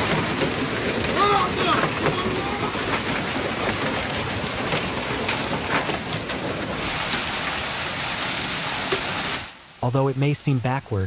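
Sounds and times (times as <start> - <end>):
wind-whipped hail: 0.0 - 9.8
hailstones hitting: 0.0 - 10.3
hail and rain pelting down: 0.0 - 10.8.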